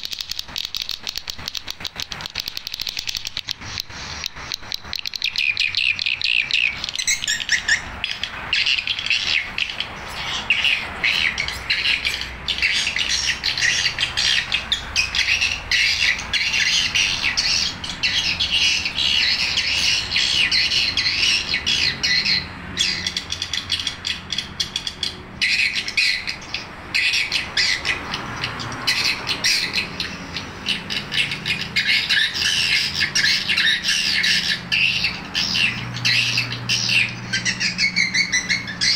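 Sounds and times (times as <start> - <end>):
high-pitched bird twittering: 2.2 - 38.9.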